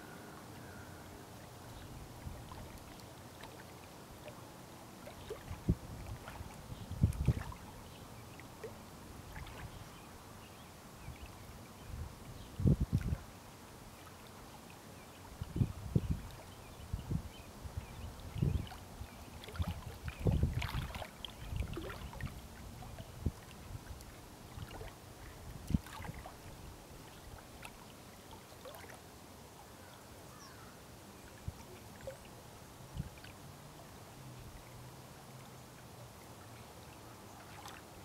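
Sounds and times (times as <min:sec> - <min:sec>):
small waves lapping on shore: 0:00.0 - 0:11.8, 0:17.9 - 0:38.0.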